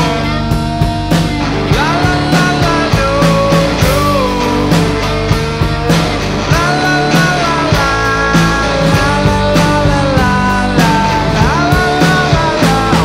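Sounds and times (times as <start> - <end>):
bass guitar: 0.0 - 13.0
electric guitar lead melody: 0.0 - 13.0
steady drum beat: 0.0 - 13.0.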